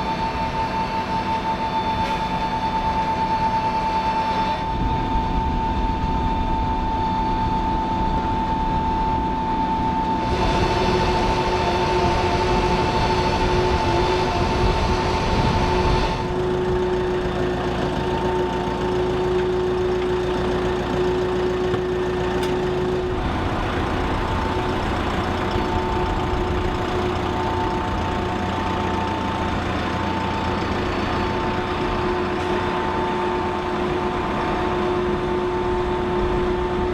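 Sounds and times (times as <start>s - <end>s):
aircraft engines droning: 0.0s - 36.9s.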